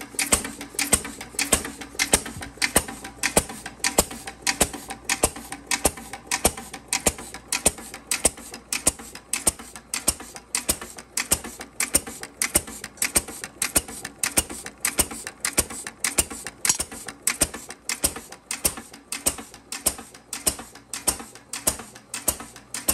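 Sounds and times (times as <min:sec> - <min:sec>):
flywheel engine clicking and knocking: 0:00.0 - 0:22.9.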